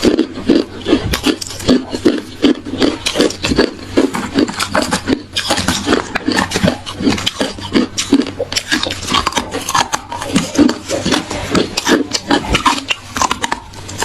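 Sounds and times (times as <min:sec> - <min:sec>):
ice being chewed: 0:00.0 - 0:14.0.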